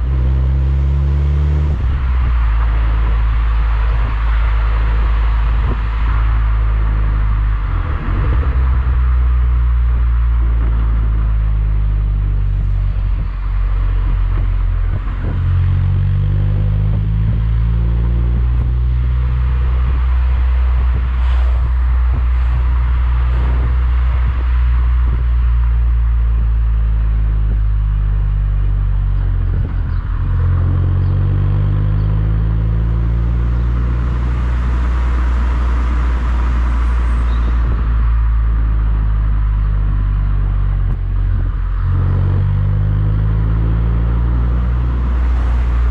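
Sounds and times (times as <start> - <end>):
car engine droning: 0.0 - 45.9.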